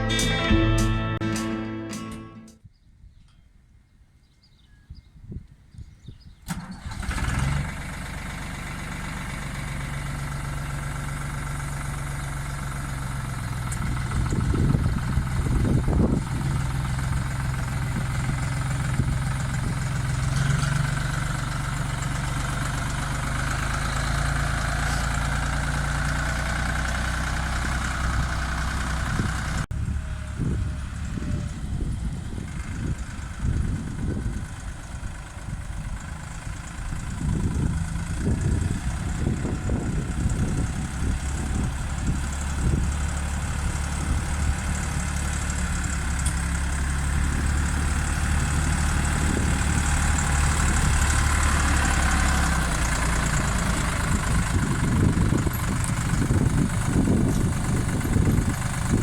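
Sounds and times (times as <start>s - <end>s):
tractor diesel engine idling: 6.6s - 59.0s.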